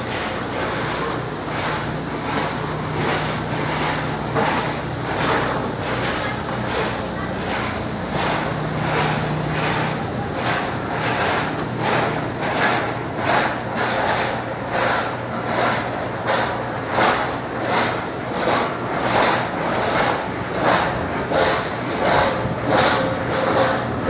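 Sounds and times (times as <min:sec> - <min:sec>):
machine motor hum: 0:00.0 - 0:24.0
rhythmic swishing: 0:00.0 - 0:24.0.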